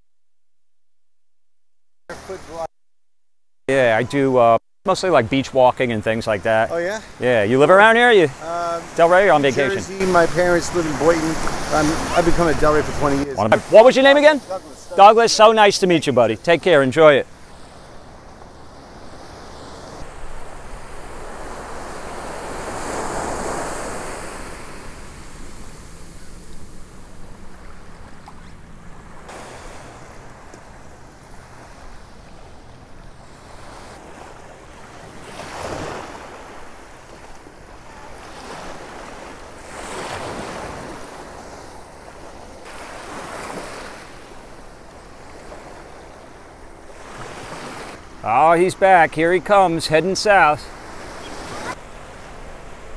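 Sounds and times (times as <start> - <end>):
small surf breaking on beach: 2.1 - 2.7, 5.8 - 52.9.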